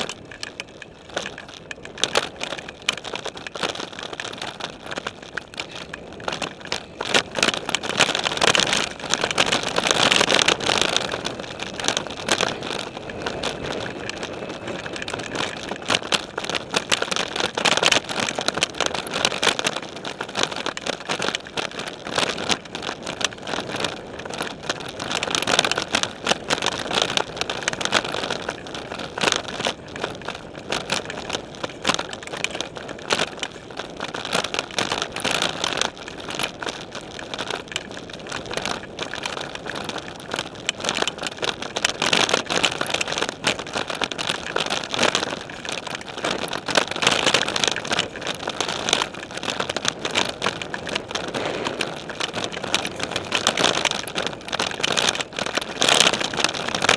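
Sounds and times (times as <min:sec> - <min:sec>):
tyre noise on dirt: 0:00.0 - 0:56.9.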